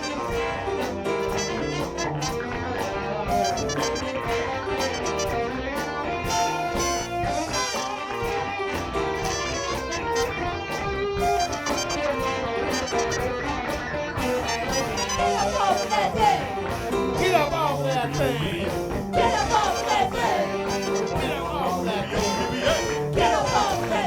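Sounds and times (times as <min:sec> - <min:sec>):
electric guitar: 0:00.0 - 0:24.0
funk band playing: 0:00.0 - 0:24.0.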